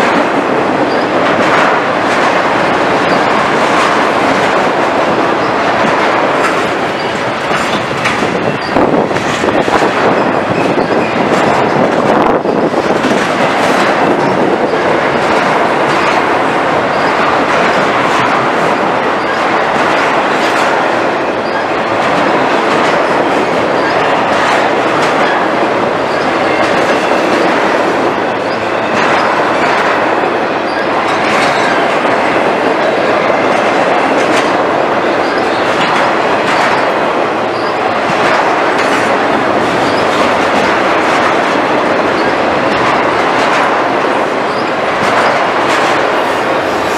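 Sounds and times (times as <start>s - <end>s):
train wheels rumbling on rail: 0.0s - 46.9s
wheels clacking over rail joints: 0.0s - 46.9s.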